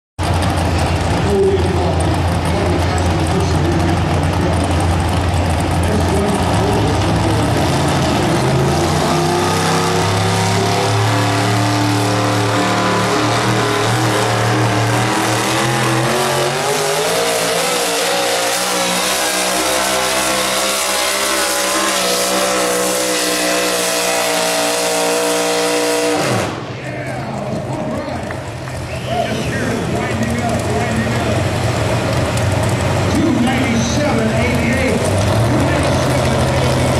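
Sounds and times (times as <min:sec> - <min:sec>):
truck engine at full throttle: 0:00.2 - 0:36.9.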